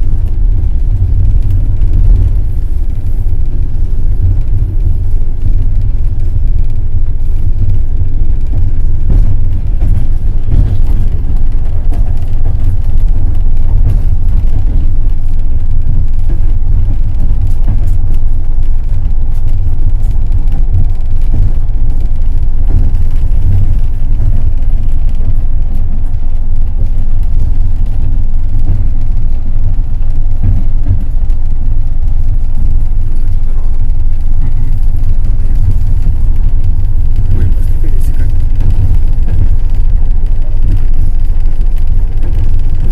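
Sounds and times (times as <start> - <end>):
train carriage rumble: 0.0 - 42.9.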